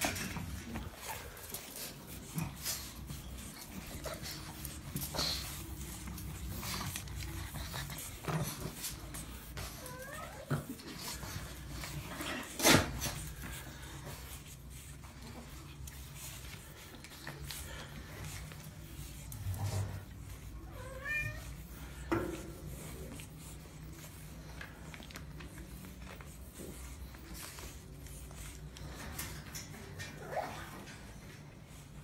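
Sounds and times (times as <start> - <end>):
puppies whining: 0.0 - 31.0.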